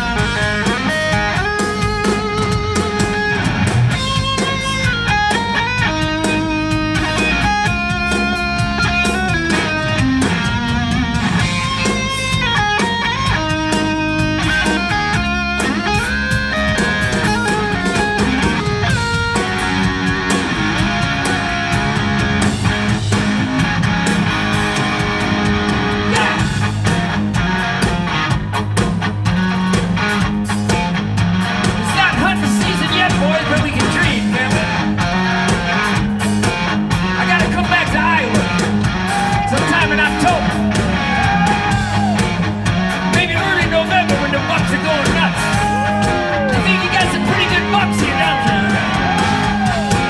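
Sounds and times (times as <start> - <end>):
bass guitar: 0.0 - 50.0
distorted electric guitar lead: 0.0 - 50.0
drums: 0.0 - 50.0.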